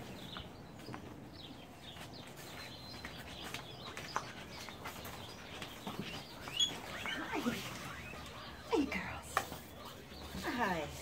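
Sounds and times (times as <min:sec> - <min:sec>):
guinea pigs squeaking: 0:01.9 - 0:11.0.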